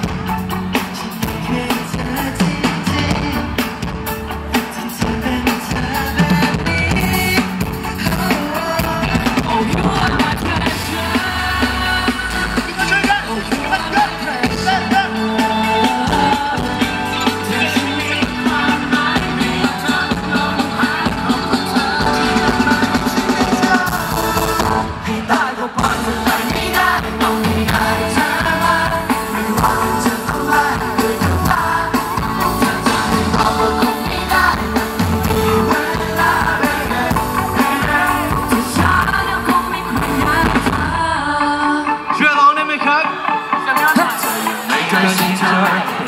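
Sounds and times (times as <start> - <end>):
pop backing music: 0.0 - 46.0
man singing into a microphone: 1.0 - 3.9, 4.9 - 40.6, 43.6 - 46.0.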